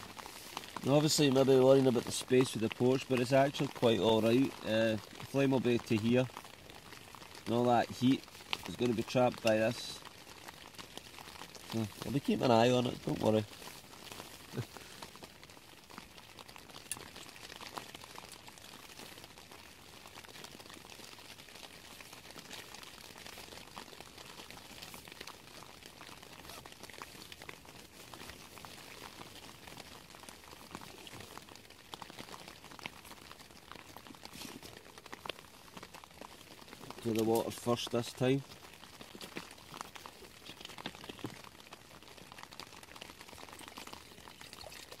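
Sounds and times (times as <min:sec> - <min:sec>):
rain pattering on tent fabric: 0:00.0 - 0:45.0.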